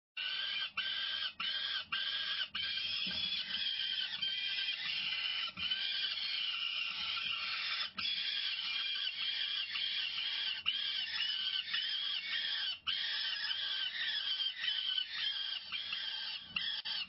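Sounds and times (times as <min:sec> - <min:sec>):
falcon chicks squealing: 0:00.2 - 0:17.0.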